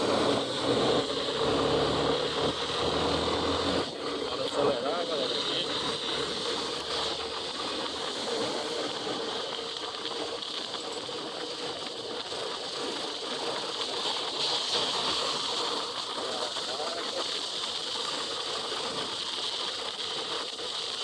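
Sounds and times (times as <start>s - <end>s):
tyres hissing on wet road: 0.0s - 21.0s.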